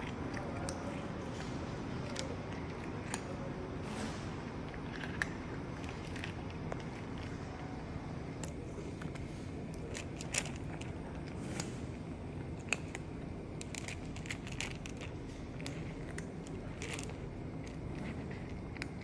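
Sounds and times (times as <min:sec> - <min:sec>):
cat crunching dry food: 0:00.0 - 0:03.6, 0:04.6 - 0:19.0
low background rumble: 0:00.0 - 0:19.0.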